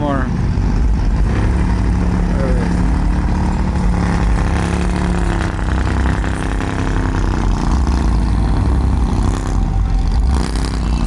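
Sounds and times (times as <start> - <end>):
car engine running low speed: 0.0 - 11.0.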